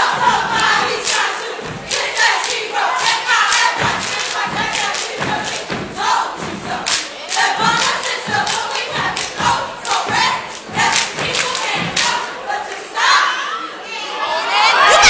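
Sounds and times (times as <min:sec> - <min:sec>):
stomps and hand claps: 0:00.0 - 0:12.3
group chanting and shouting: 0:00.0 - 0:15.0.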